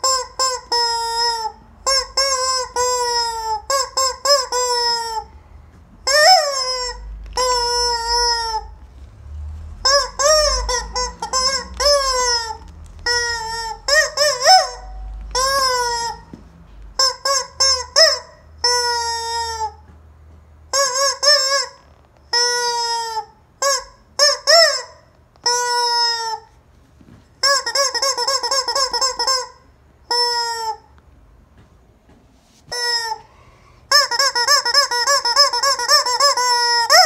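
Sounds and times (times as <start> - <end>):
rubber squeaky toy squealing: 0.0 - 5.4, 6.0 - 8.9, 9.8 - 16.4, 17.0 - 19.9, 20.7 - 26.6, 27.4 - 30.9, 32.7 - 33.3, 33.9 - 37.0.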